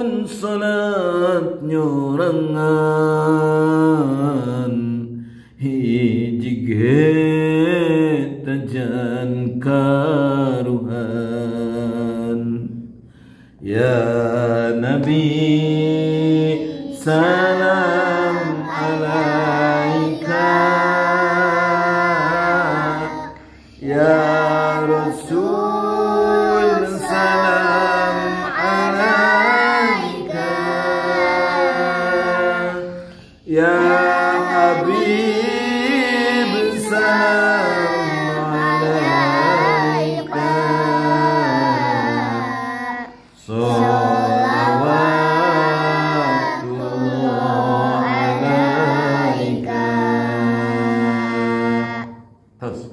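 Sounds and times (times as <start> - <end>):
man and children singing chant: 0.0 - 52.9.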